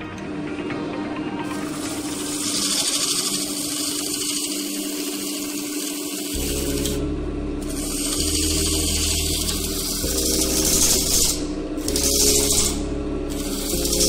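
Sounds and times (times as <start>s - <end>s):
background music: 0.0s - 4.1s, 6.3s - 14.0s
lathe motor hum: 0.0s - 14.0s
gouge cutting wood on lathe: 1.5s - 7.0s, 7.6s - 14.0s.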